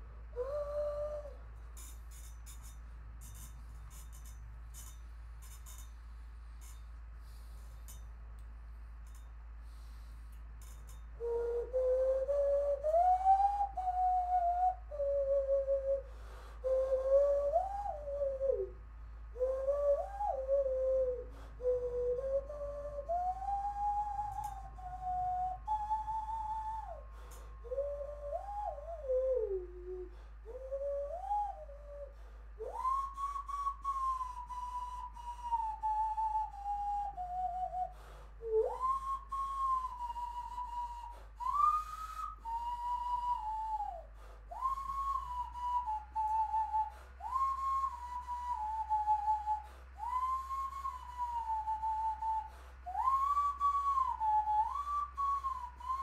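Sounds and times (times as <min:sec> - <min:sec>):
hand whistle tune: 0:00.0 - 0:08.0, 0:09.1 - 0:56.0.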